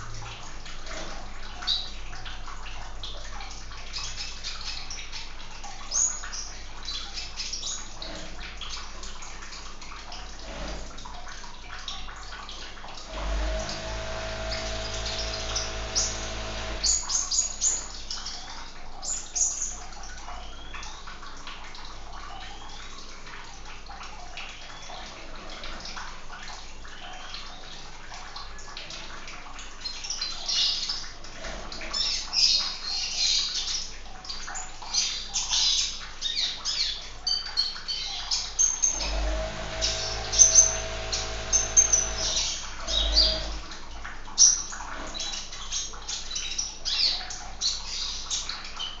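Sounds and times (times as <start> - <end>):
running water: 0.0 - 49.0.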